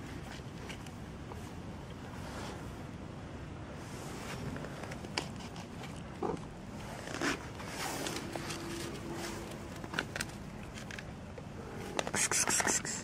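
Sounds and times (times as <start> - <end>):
close rustling and handling noise: 0.0 - 3.1, 3.7 - 13.0.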